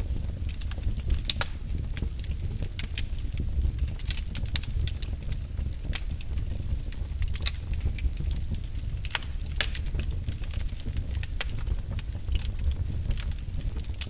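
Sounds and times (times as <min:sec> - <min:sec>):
fire crackling and popping: 0:00.0 - 0:14.0
low rumble of fire: 0:00.0 - 0:14.0.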